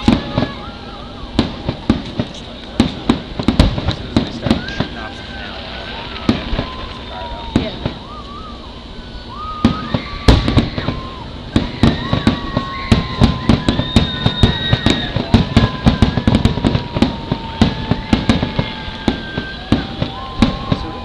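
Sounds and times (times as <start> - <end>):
fireworks bangs: 0.0 - 21.0
fireworks whistling: 0.0 - 21.0.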